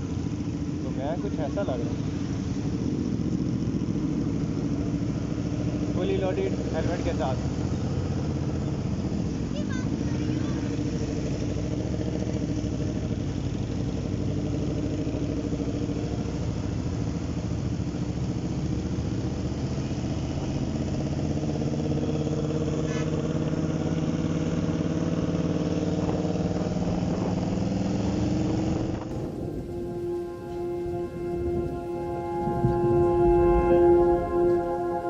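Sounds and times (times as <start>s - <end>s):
motorcycle engine running: 0.0s - 34.4s.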